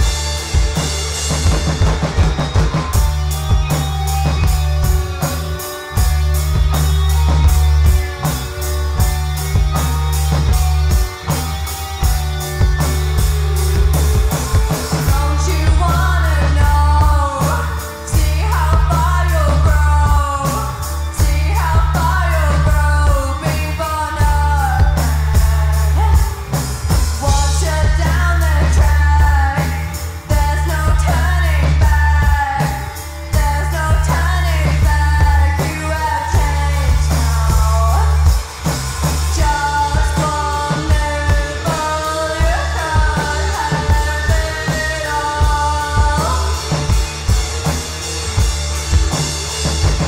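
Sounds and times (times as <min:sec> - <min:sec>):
person singing: 0:00.0 - 0:47.8
rock band playing: 0:00.0 - 0:50.0.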